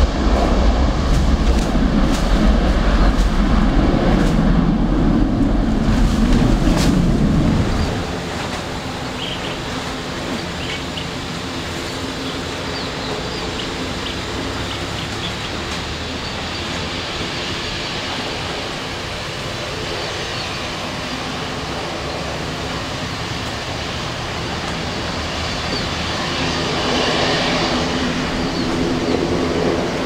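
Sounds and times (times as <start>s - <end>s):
jet engines rumbling at takeoff: 0.0s - 30.0s
steady jet engine noise: 0.0s - 30.0s.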